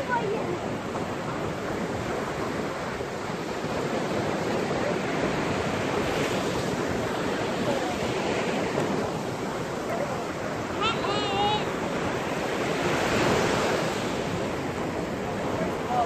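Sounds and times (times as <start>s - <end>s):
small waves breaking on sand: 0.0s - 16.0s.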